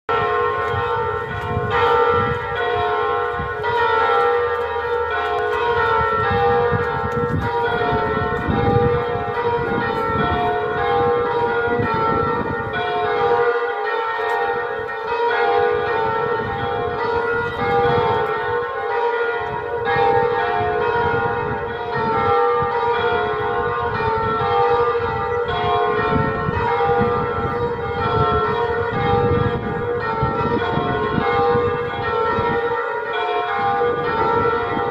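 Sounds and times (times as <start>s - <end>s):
electronic church bells pealing: 0.1s - 34.9s.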